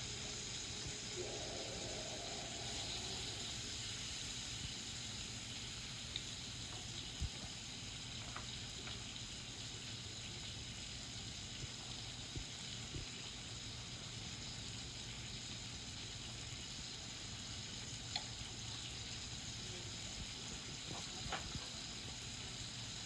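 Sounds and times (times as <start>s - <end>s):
bacon sizzling in a pan: 0.0s - 23.0s.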